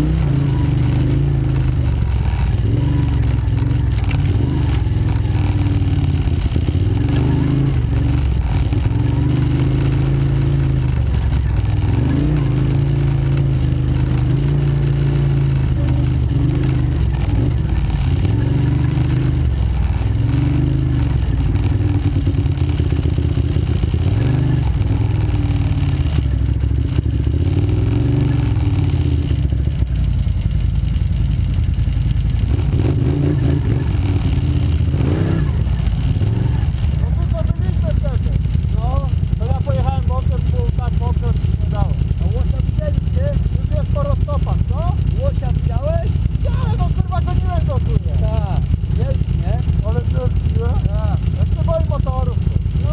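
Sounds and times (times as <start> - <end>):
clatter from bumpy ride: 0.0 - 52.9
quad bike engine revving: 0.0 - 52.9.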